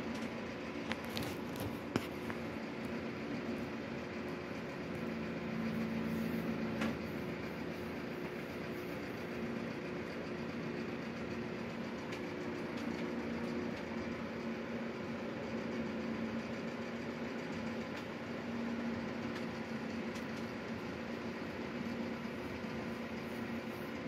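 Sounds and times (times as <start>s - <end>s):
electric fan humming: 0.0s - 24.0s.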